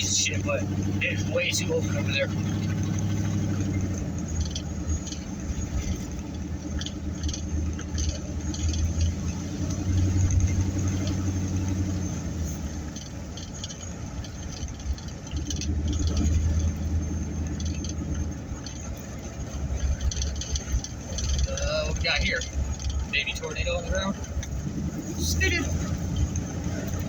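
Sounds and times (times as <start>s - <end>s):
engine and road rumble: 0.0s - 27.0s
light clicks and rattles: 0.0s - 27.0s.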